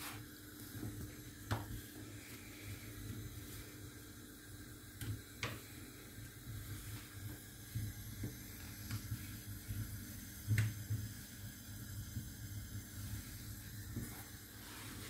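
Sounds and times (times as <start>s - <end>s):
gas burner low rumble: 0.0s - 15.0s.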